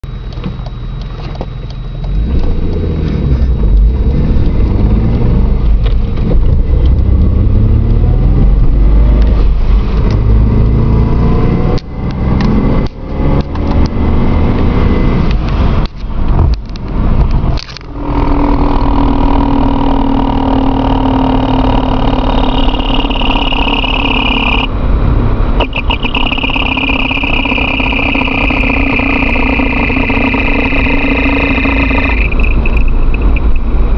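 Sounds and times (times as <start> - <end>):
vehicle transmission rumble and whine: 0.0 - 33.9.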